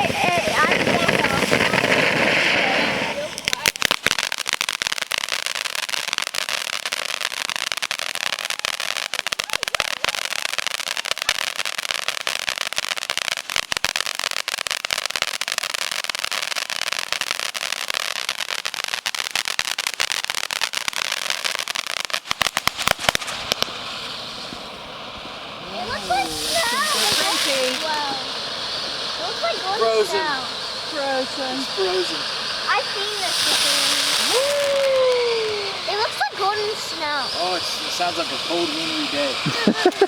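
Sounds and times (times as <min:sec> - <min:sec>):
fountain firework crackling hiss: 0:00.0 - 0:40.0.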